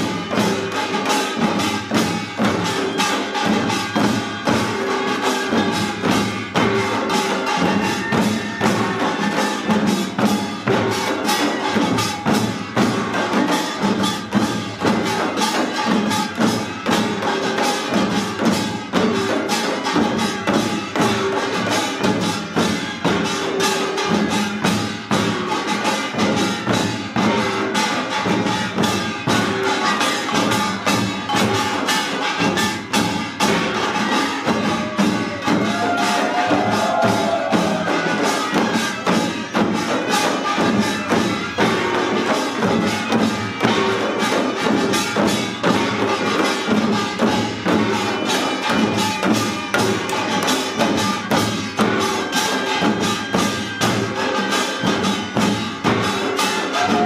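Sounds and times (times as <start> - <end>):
barrel drums: 0.0 - 57.0
hourglass drums: 0.0 - 57.0
percussion band playing: 0.0 - 57.0.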